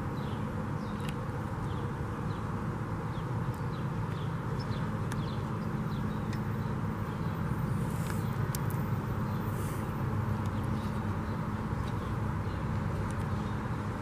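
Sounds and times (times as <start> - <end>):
small birds chirping faintly: 0.0 - 14.0.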